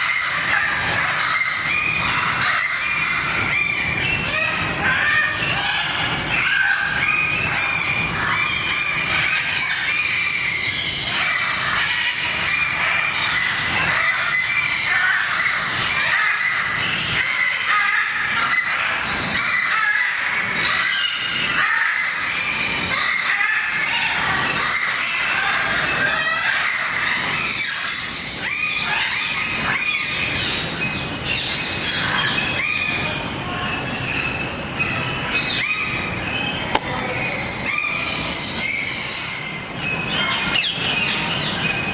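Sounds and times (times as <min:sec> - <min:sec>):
many birds squawking: 0:00.0 - 0:41.9.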